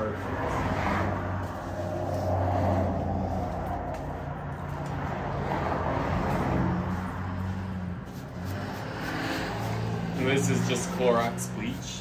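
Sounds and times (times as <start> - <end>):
cars passing by: 0.0 - 12.0.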